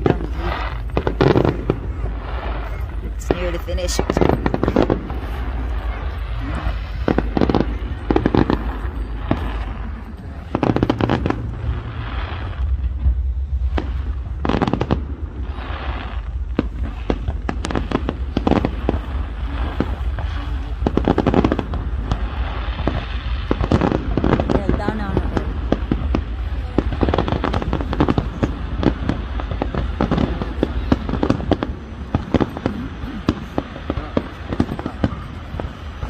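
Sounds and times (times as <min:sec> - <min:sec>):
fireworks bursting with bangs: 0:00.0 - 0:36.0
fireworks crackle: 0:00.0 - 0:36.0
steady low rumble: 0:00.0 - 0:36.0.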